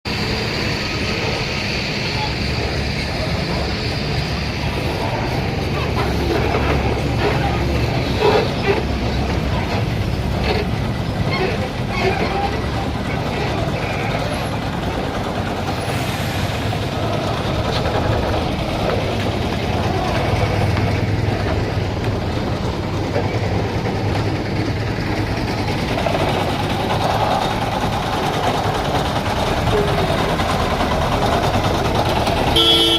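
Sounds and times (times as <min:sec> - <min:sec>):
truck engine and road rumble: 0:00.0 - 0:32.9.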